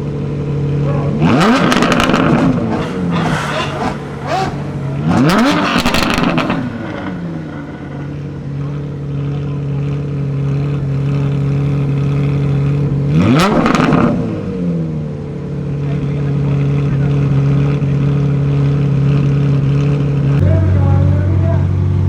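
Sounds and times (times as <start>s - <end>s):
car engine idling: 0.0s - 22.0s
car engine revving: 0.0s - 22.0s.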